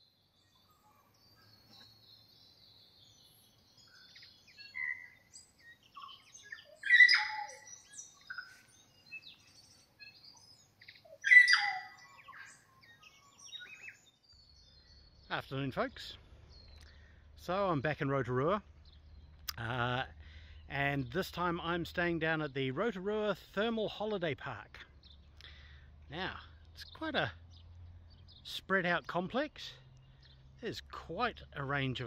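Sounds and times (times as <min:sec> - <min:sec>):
birds chirping and singing: 0:00.0 - 0:32.0.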